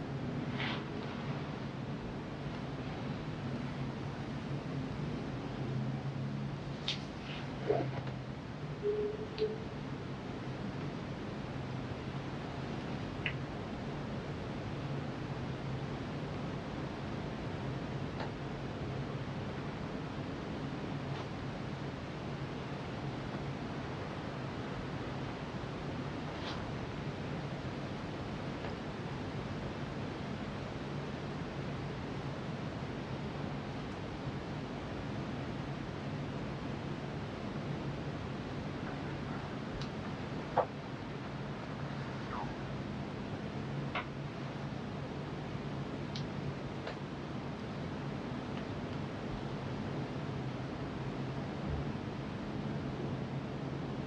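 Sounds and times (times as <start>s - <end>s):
steady hiss: 0.0s - 51.4s
faint low hum: 0.0s - 54.0s.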